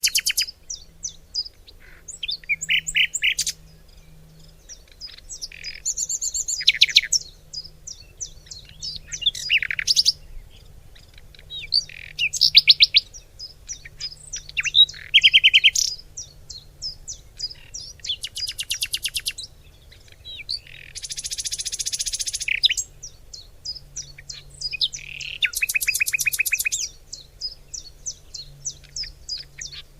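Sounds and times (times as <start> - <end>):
birds chirping and singing: 0.0 - 29.9.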